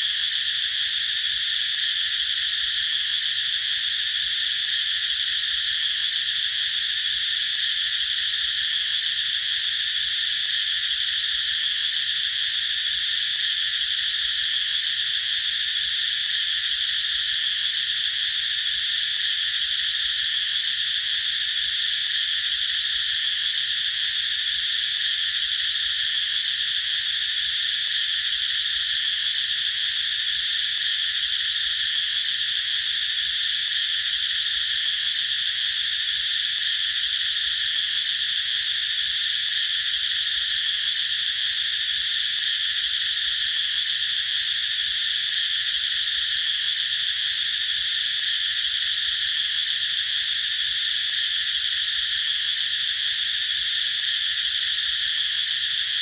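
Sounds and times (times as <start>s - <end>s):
cicadas droning: 0.0s - 56.0s.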